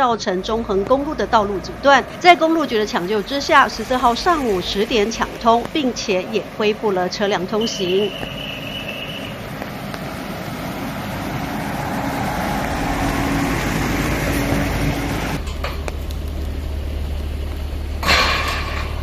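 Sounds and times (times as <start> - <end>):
steady low hum: 0.0 - 19.0
lorry driving past on wet road: 0.2 - 19.0.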